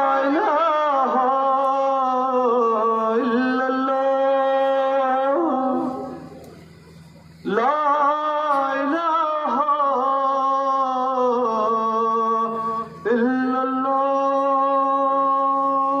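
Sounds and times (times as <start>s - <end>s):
man chanting call to prayer: 0.0s - 6.4s, 7.4s - 16.0s.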